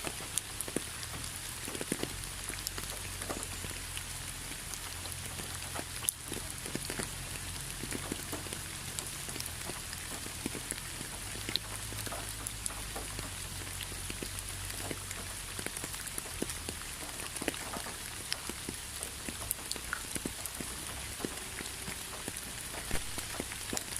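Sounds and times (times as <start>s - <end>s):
raindrops striking a surface: 0.0s - 23.9s
steady rain hiss: 0.0s - 23.9s.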